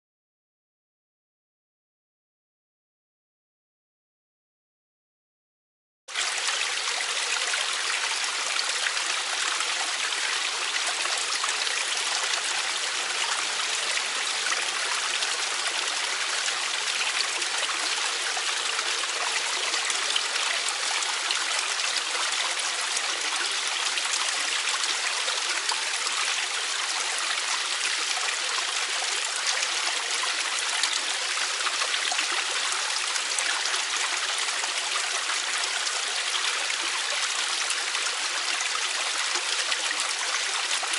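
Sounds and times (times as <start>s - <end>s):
stream running over rocks: 6.1s - 40.9s.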